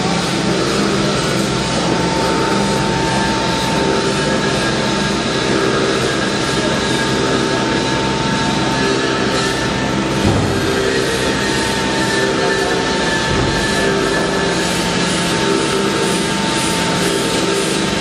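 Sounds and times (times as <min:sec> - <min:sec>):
constant high whine: 0:00.0 - 0:18.0
turntable mechanical hum: 0:00.0 - 0:18.0.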